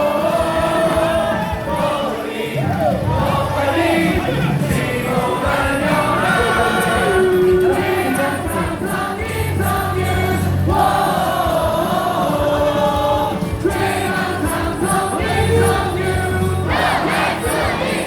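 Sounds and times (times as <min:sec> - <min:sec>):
crowd singing a cheer song: 0:00.0 - 0:18.0
loud music: 0:00.0 - 0:18.0.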